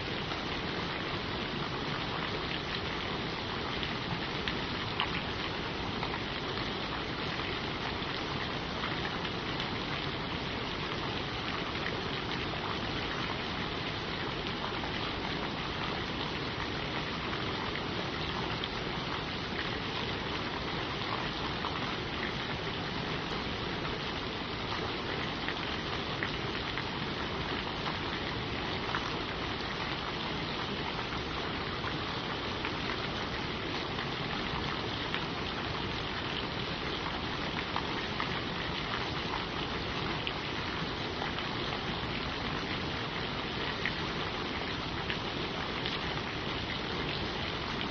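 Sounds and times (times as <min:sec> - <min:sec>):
rain falling on leaves: 0:00.0 - 0:47.9.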